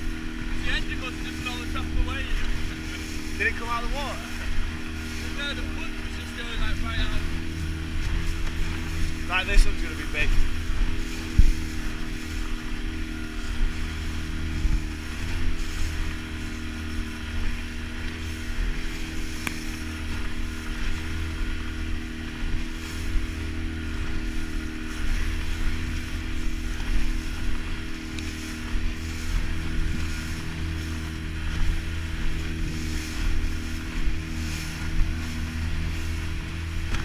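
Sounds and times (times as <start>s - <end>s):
boat hull slapping waves: 0.0s - 37.0s
outboard motor running: 0.0s - 37.0s
wind rushing over microphone: 0.0s - 37.0s.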